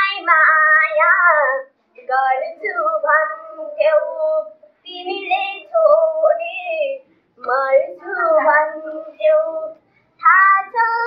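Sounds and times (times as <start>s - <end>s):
girl singing unaccompanied: 0.0s - 11.0s.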